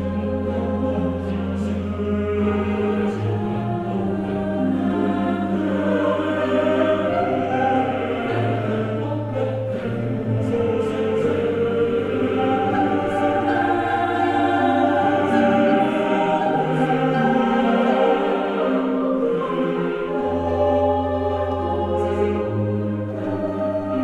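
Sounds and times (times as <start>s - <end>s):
choir singing long-held chords: 0.0s - 24.0s.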